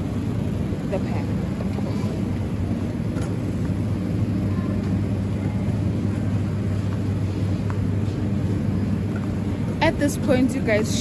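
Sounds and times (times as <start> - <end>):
supermarket background hum: 0.0 - 11.0.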